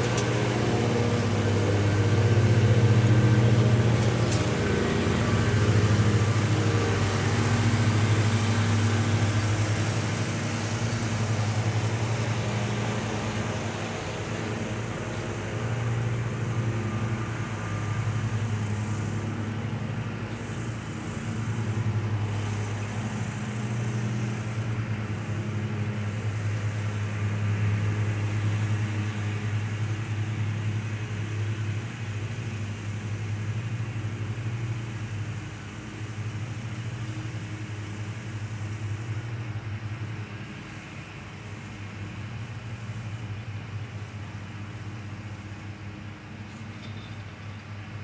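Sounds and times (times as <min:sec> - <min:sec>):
lawn mower engines running: 0:00.0 - 0:48.0.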